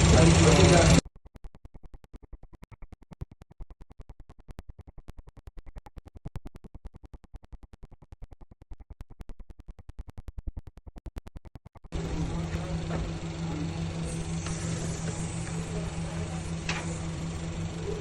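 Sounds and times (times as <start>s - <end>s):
stuttering choppy audio pulses: 0.0s - 18.0s.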